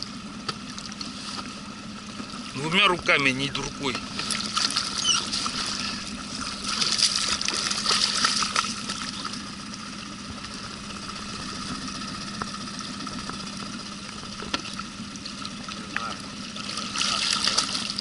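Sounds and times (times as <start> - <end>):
low hum: 0.0 - 18.0
river noise: 0.0 - 18.0
water splashing against boat: 0.0 - 18.0.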